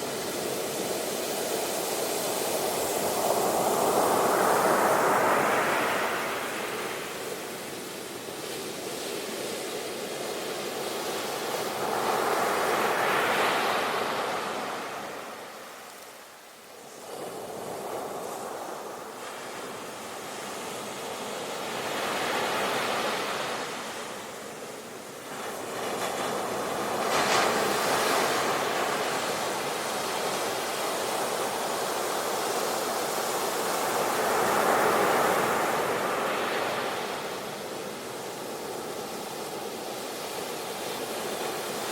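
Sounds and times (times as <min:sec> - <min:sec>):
sea waves breaking on shore: 0:00.0 - 0:16.4, 0:17.0 - 0:41.9.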